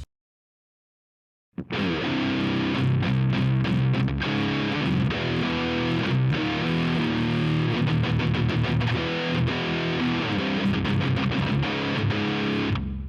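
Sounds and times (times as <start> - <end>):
distorted electric guitar riff: 1.6 - 13.0.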